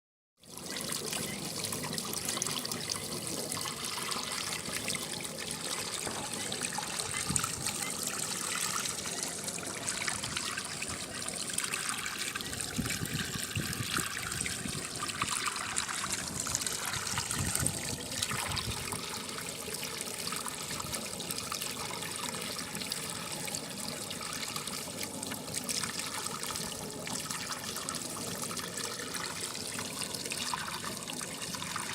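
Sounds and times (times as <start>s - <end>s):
water running and trickling: 0.4s - 31.9s.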